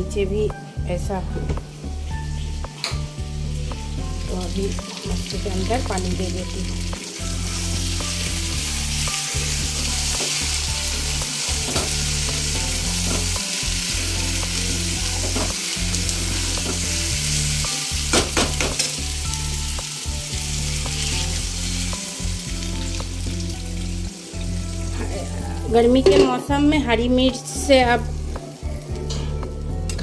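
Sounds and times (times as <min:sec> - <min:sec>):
food sizzling in a pan: 0:01.6 - 0:29.9.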